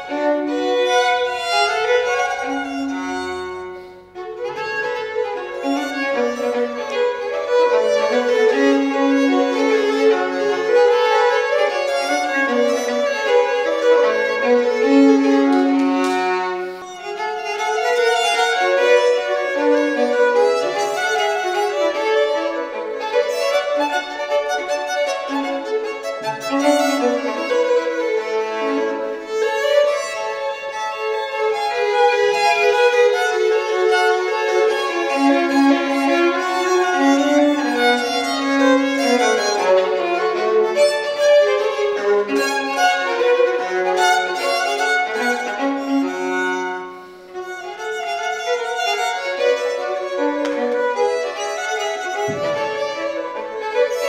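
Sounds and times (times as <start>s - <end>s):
two violins playing a duet: 0.0s - 54.0s.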